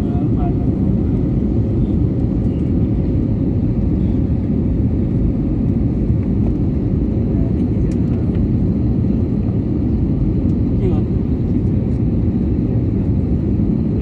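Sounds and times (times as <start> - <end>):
jet engine and airflow roar: 0.0 - 14.0.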